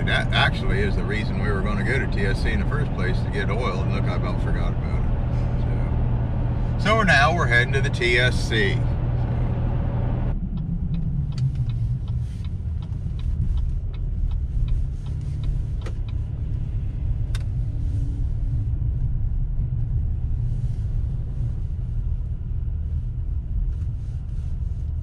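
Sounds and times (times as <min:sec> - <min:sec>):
road and engine rumble: 0:00.0 - 0:25.0.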